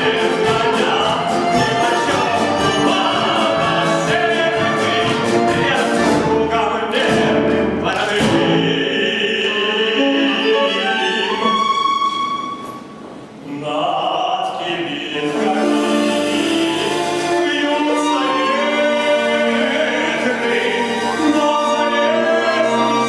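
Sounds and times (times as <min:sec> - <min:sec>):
man singing operatically: 0:00.0 - 0:11.8, 0:13.4 - 0:23.0
orchestra with strings: 0:00.0 - 0:23.0.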